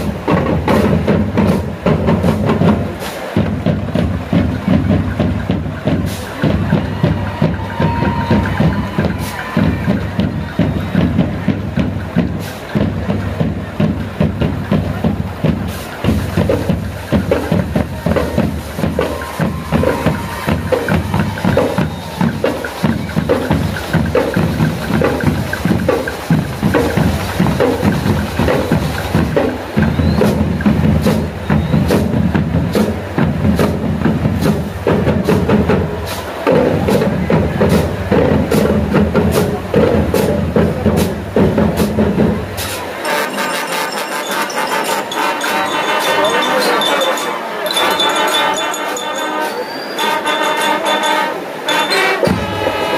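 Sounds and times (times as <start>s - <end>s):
marching drums playing: 0.0s - 52.9s.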